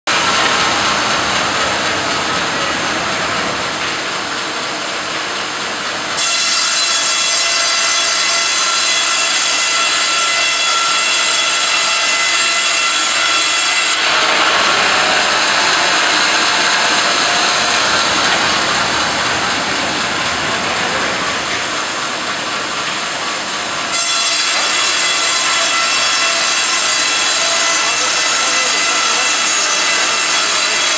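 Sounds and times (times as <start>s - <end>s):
band saw cutting timber: 0.1s - 30.9s.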